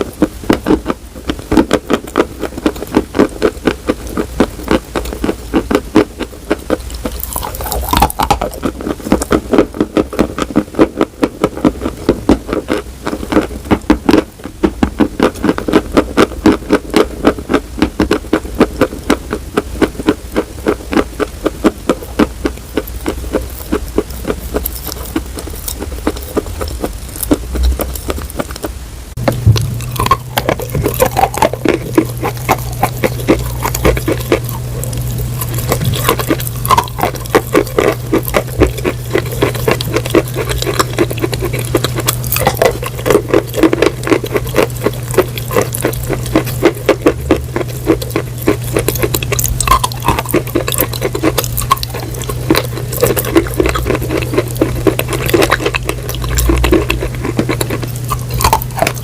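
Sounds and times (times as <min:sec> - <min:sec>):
crunchy food being chewed: 0:00.0 - 0:59.0
steady low hum: 0:00.0 - 0:59.0.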